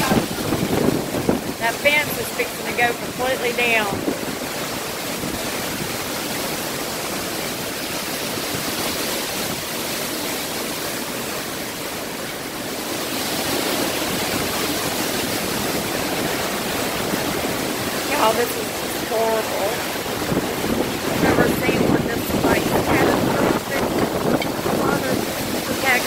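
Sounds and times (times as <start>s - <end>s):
driving rain: 0.0s - 26.0s
hurricane wind: 0.0s - 26.0s.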